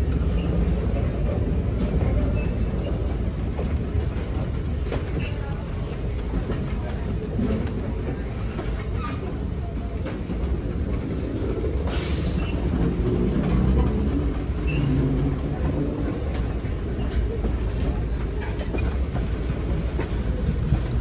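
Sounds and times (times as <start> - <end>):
train rolling on track: 0.0 - 21.0.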